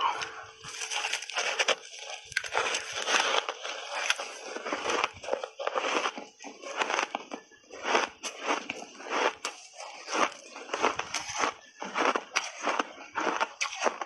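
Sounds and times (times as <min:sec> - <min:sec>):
biting and crunching ice: 0:00.0 - 0:14.0.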